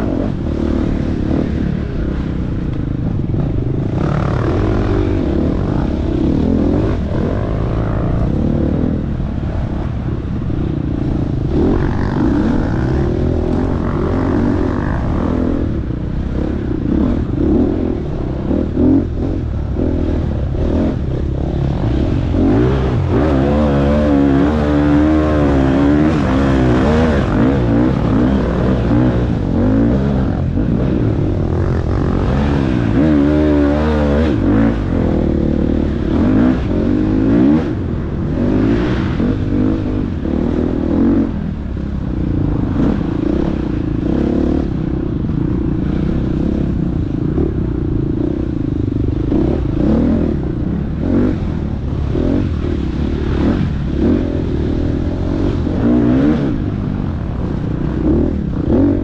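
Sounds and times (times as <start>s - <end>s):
dirt bike engine revving: 3.3s - 59.0s.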